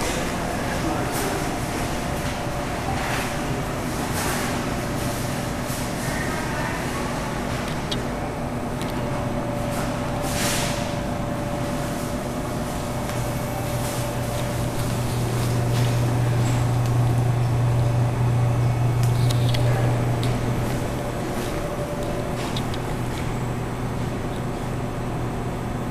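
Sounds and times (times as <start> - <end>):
refrigeration units humming: 0.0 - 25.9.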